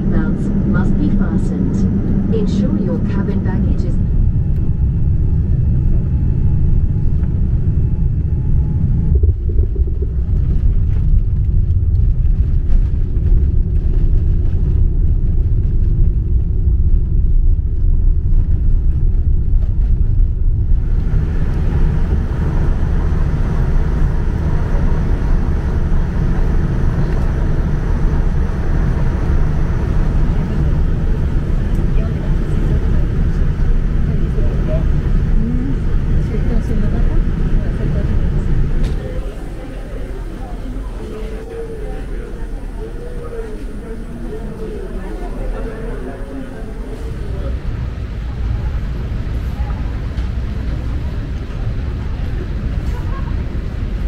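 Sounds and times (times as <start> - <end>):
jet cabin engine rumble: 0.0 - 54.0.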